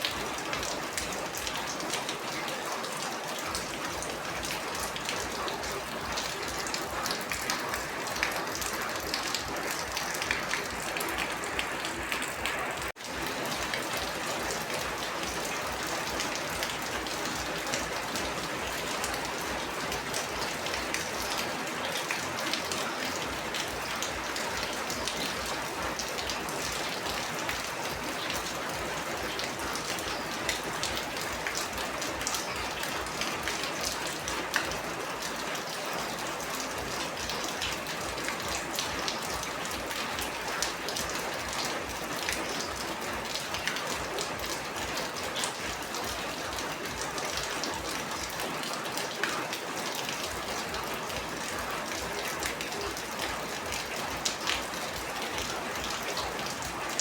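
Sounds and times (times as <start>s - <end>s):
heavy rain: 0.0s - 57.0s
raindrops pattering on a surface: 0.0s - 57.0s.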